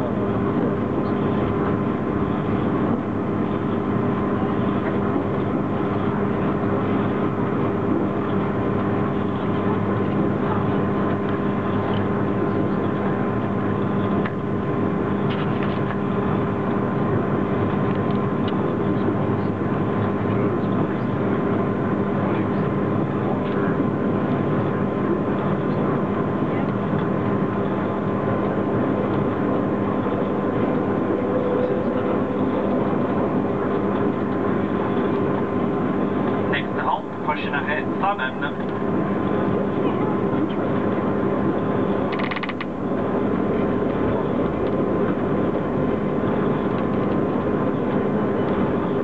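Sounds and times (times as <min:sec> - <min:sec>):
constant hum: 0:00.0 - 0:49.0
train rumbling on track: 0:00.0 - 0:49.0.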